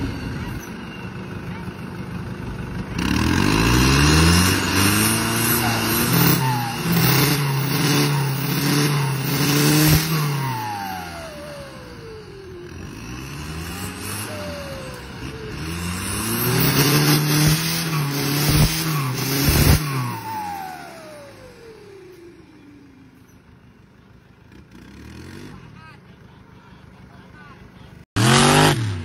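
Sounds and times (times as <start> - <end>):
diesel engine revving hard: 0.0 - 23.0, 24.4 - 25.7, 28.0 - 29.0.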